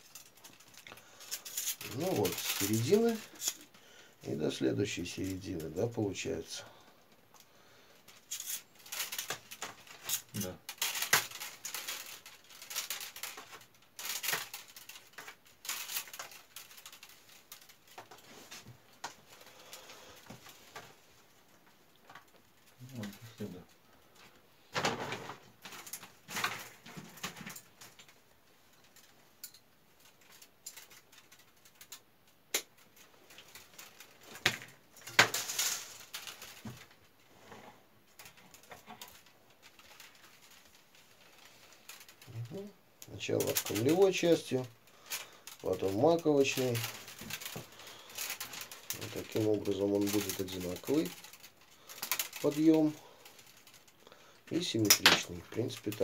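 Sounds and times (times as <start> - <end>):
willow rods rustling and creaking: 0.0 - 56.0.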